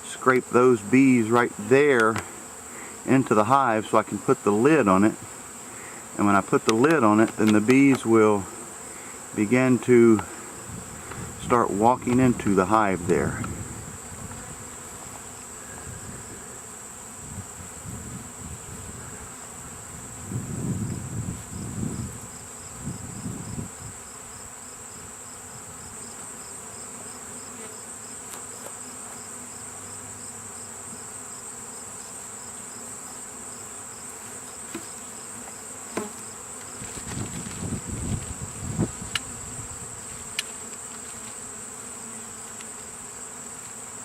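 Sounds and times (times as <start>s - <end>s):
bee swarm buzzing: 0.0s - 44.0s
high-pitched insect whine: 0.6s - 44.0s.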